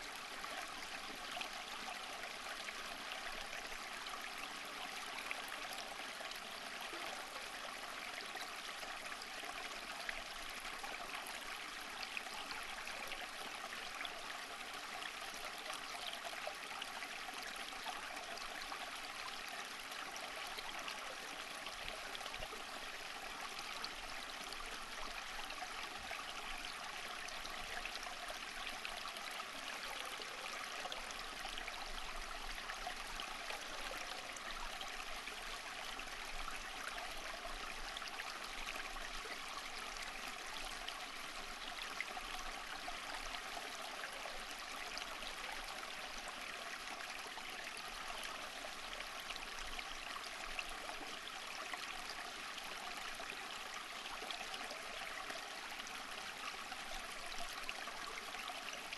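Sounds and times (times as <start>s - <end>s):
stream water flowing: 0.0s - 58.9s.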